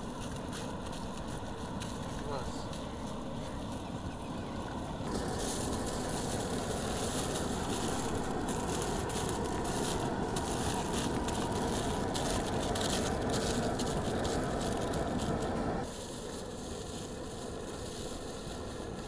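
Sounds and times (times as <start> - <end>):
aluminium foil crinkling: 0.0 - 3.8, 5.1 - 19.0
steady rushing noise: 0.0 - 19.0.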